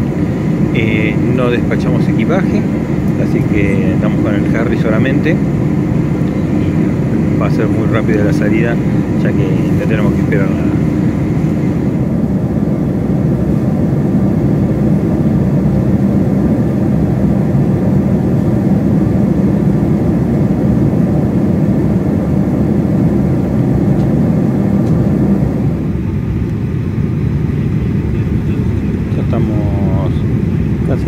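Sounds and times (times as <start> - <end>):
rushing air: 0.0 - 27.9
airliner engines rumbling in cabin: 0.0 - 31.0.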